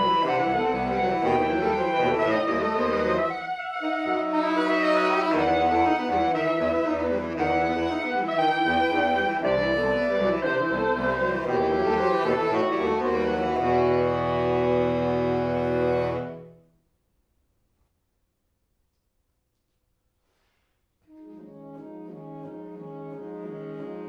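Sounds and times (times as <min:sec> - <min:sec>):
saxophone quartet playing: 0:00.0 - 0:16.6, 0:21.1 - 0:24.0.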